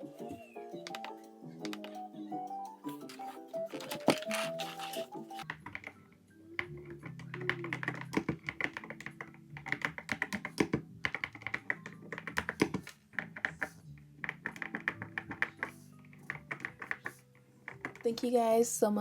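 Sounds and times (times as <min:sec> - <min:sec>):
background music: 0:00.0 - 0:19.0
mechanical keyboard typing: 0:00.7 - 0:02.0, 0:02.9 - 0:06.0, 0:06.6 - 0:18.2.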